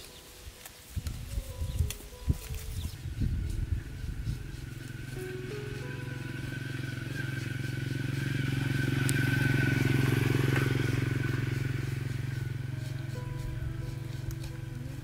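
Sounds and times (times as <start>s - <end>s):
vehicle engine passing by: 2.4s - 15.0s.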